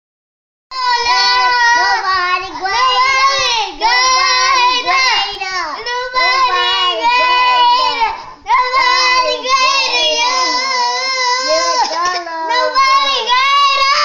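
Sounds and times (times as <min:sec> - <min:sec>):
toddlers singing: 0:00.7 - 0:14.0.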